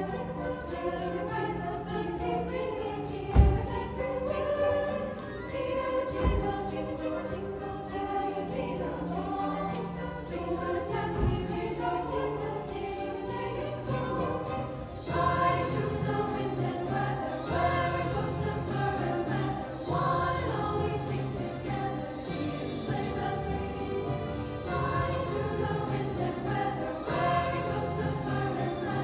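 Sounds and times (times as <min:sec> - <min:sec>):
youth choir singing: 0:00.0 - 0:29.0.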